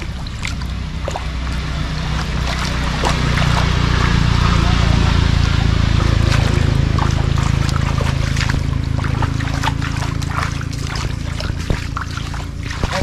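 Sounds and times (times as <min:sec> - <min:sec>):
low hum: 0:00.0 - 0:13.0
water splashing and sloshing: 0:00.0 - 0:13.0.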